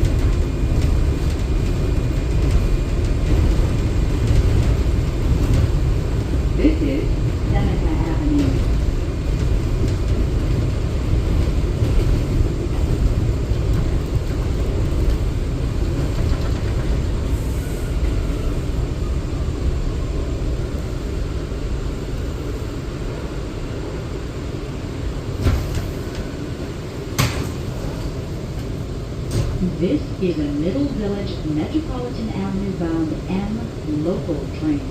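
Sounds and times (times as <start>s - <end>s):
subway car rumbling on rails: 0.0s - 34.9s.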